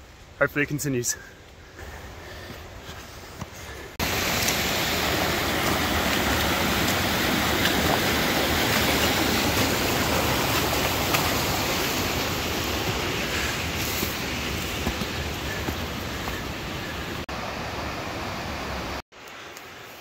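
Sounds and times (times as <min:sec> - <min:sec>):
rush of flowing water: 0:03.9 - 0:20.0.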